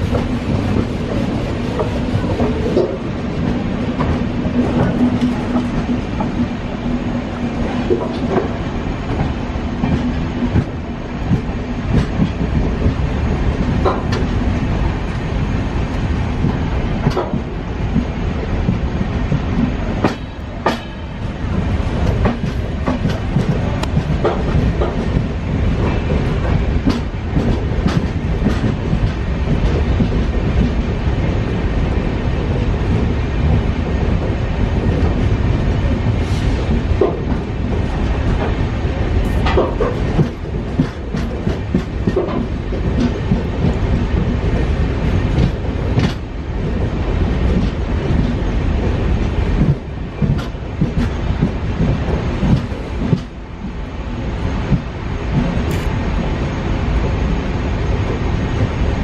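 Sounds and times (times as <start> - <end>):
wheels clacking over rail joints: 0.0 - 15.5, 16.4 - 31.4, 32.4 - 53.4
train wheels rumbling on rails: 0.0 - 59.0.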